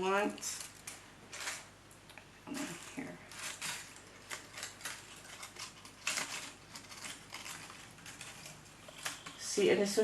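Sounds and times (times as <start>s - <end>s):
flower stems clicking and rustling: 0.0s - 10.0s.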